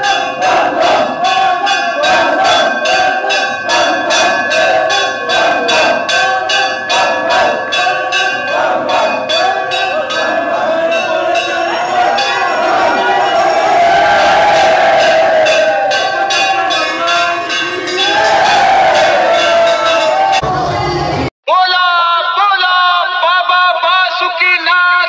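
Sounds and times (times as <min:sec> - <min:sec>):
temple bell ringing: 0:00.0 - 0:21.2
crowd of men shouting and chanting: 0:00.0 - 0:25.0.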